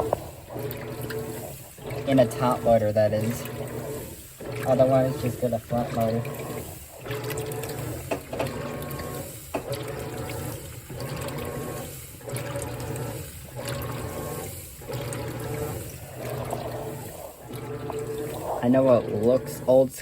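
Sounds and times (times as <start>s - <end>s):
washing machine agitating: 0.0s - 20.0s.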